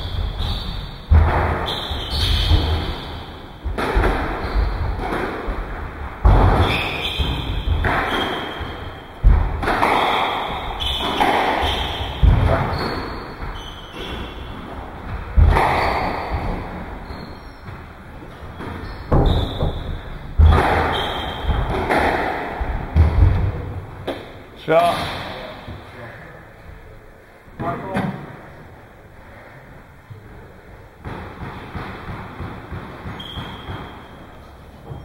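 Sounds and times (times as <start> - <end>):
squash ball hitting racket and wall: 0.0 - 25.8, 30.9 - 35.0.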